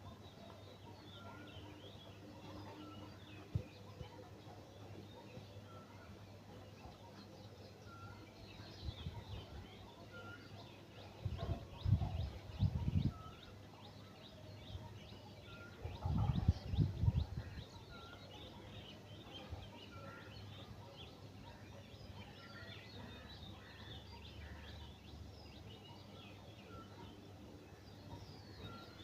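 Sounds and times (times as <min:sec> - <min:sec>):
birds chirping in chorus: 0:00.0 - 0:29.0.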